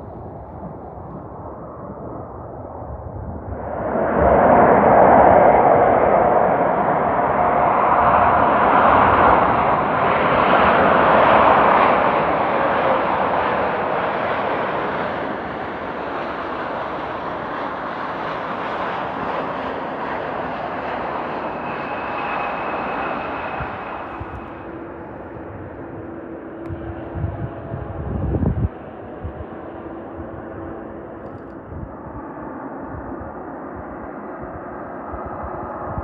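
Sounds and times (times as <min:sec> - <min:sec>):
jet airliner passing: 0:00.0 - 0:36.0.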